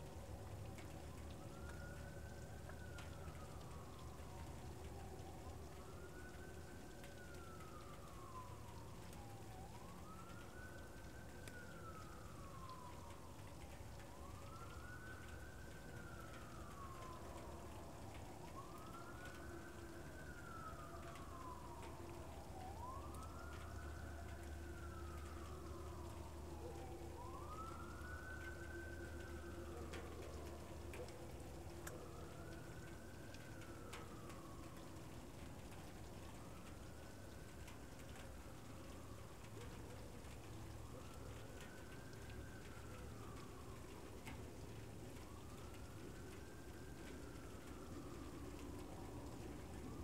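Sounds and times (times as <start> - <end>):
faint siren wailing: 0.0 - 50.0
low steady hum: 0.0 - 50.0.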